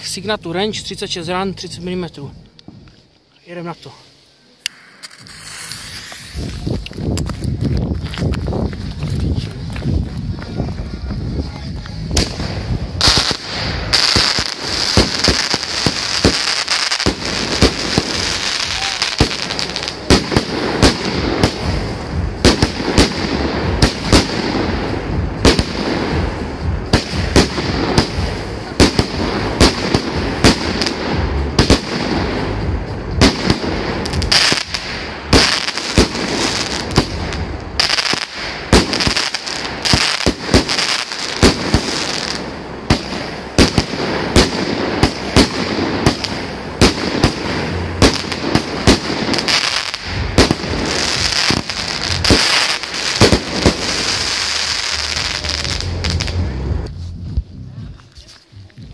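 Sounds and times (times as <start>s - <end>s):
constant hiss: 0.0s - 58.9s
fireworks reports: 0.0s - 58.9s.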